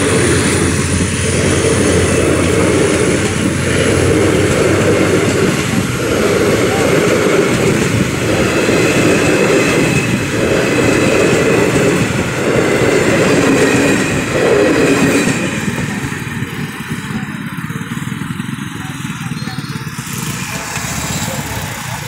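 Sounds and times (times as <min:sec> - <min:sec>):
train coaches rolling past: 0:00.0 - 0:22.0.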